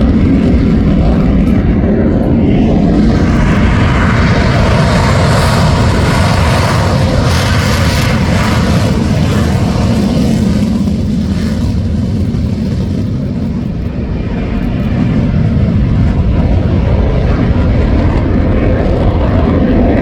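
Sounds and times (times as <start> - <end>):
fighter jet engines rumbling: 0.0 - 20.0.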